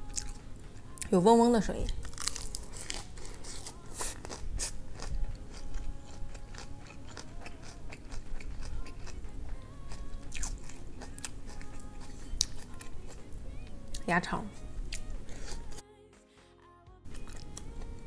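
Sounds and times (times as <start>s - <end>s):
crunching and chewing cabbage: 0.0s - 1.1s, 1.8s - 15.8s, 17.1s - 18.0s
low air-conditioner hum: 0.0s - 15.8s, 17.1s - 18.0s.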